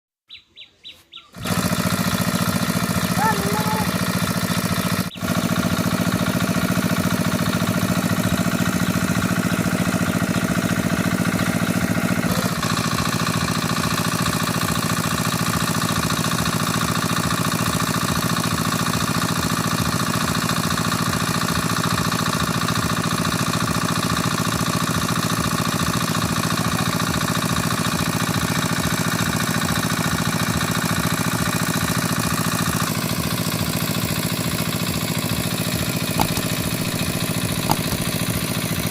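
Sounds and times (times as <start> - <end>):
engine running: 1.3 - 38.9.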